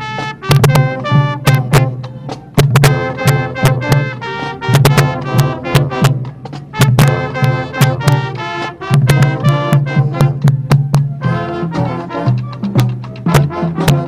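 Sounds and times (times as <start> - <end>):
brass horns playing chords: 0.0 - 14.0
sharp drum hits: 0.2 - 14.0.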